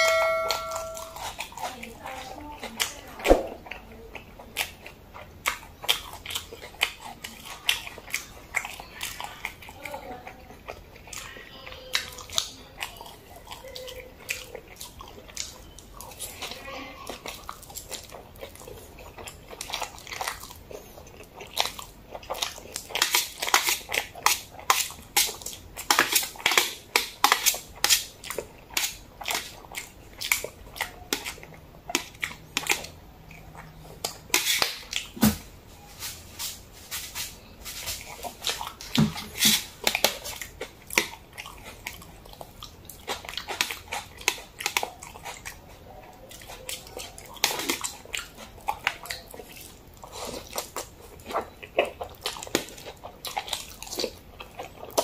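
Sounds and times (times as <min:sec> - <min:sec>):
chewing mouth clicks and smacks: 0:00.7 - 0:35.4, 0:36.9 - 0:55.0.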